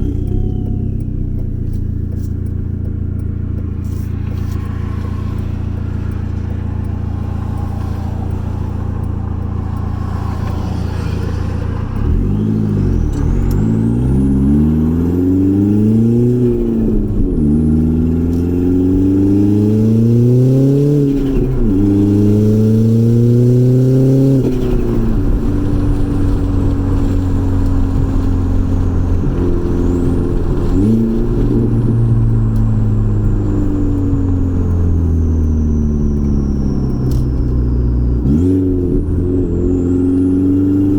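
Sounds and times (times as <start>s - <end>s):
turbocharged engine accelerating: 0.0s - 40.9s.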